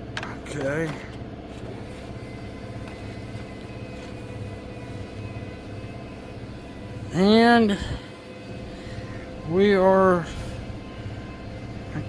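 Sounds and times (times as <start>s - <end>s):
steady mechanical hum throbbing: 0.0s - 12.0s.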